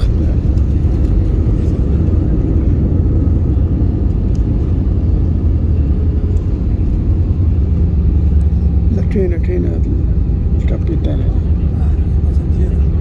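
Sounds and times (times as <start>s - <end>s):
jet cabin rumble on runway: 0.0s - 13.0s.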